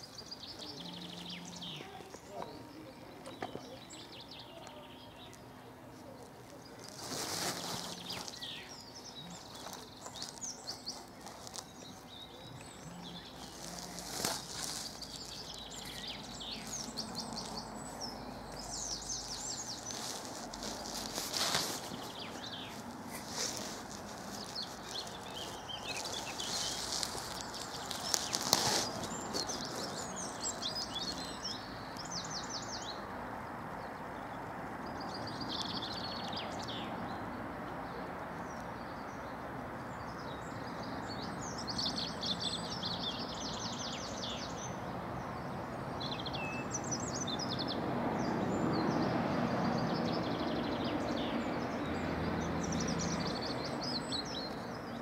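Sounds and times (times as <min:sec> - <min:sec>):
outdoor background hiss: 0:00.0 - 0:49.9
songbirds chirping: 0:00.0 - 0:55.0.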